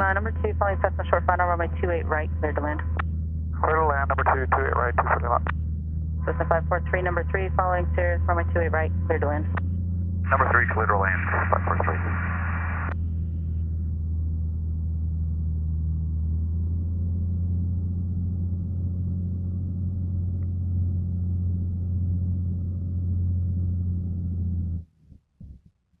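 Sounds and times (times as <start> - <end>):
airplane engine droning: 0.0 - 24.4.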